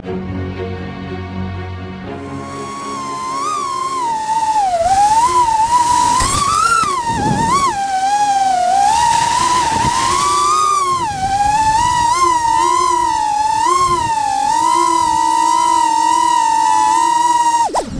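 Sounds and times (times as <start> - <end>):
drone motors whining: 2.0 - 17.9.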